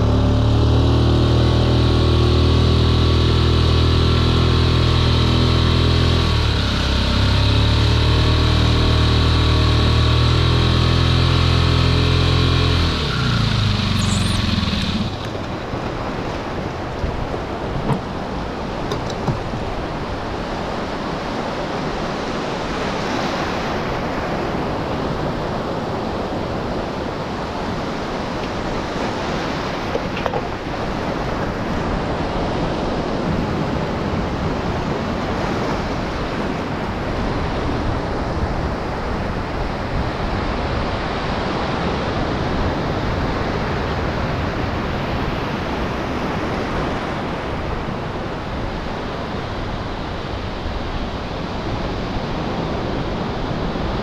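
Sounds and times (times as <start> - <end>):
surf breaking and washing: 0.0 - 54.0.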